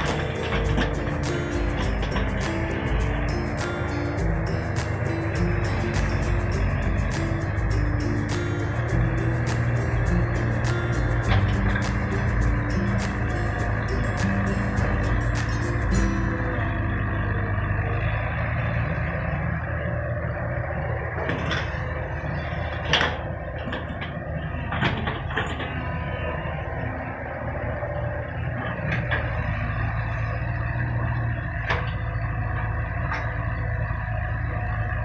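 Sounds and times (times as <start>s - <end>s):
excavator engine running: 0.0s - 35.0s.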